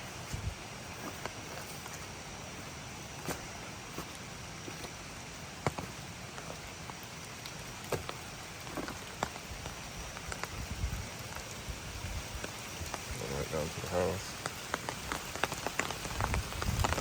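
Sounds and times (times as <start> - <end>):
water hissing: 0.0 - 17.0.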